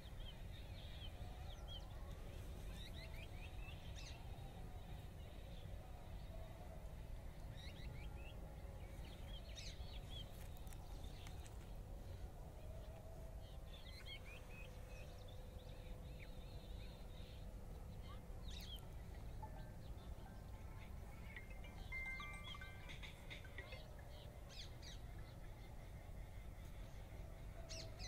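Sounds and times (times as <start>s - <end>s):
faint hum: 0.0s - 28.0s
low outdoor rumble: 0.0s - 28.0s.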